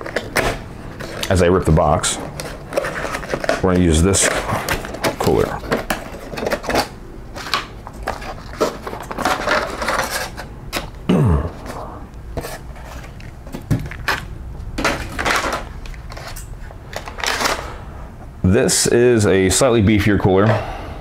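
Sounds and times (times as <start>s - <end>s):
cardboard and plastic rustling: 0.0s - 17.8s.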